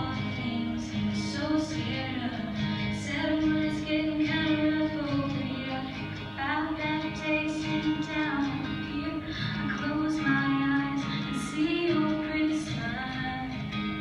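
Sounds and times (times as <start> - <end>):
young woman singing country ballad: 0.0 - 14.0.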